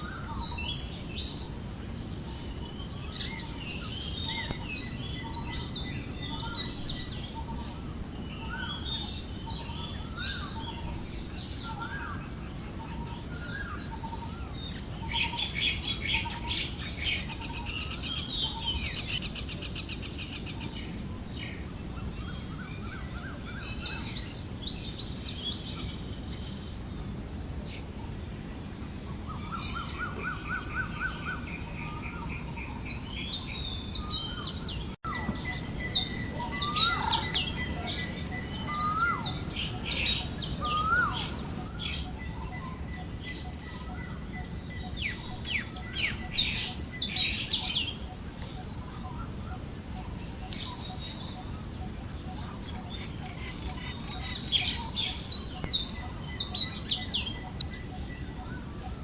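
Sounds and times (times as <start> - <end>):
forest birds chirping: 0.0 - 59.0
soft low breeze: 0.0 - 59.0.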